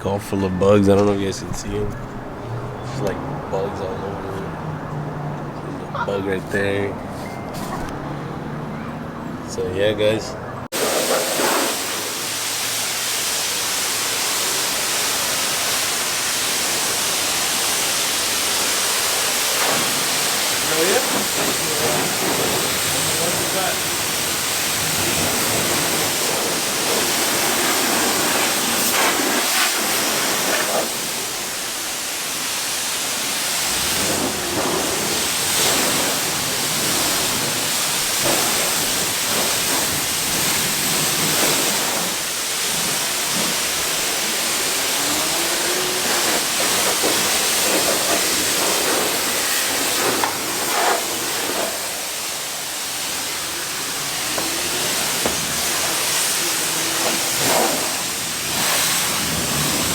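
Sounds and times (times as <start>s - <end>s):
pressure washer spray hissing: 10.7s - 59.9s.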